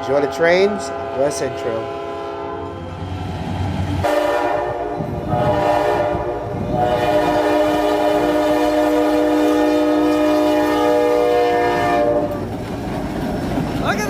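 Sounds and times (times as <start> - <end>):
locomotive air horn chord: 0.0 - 2.9, 4.0 - 12.4.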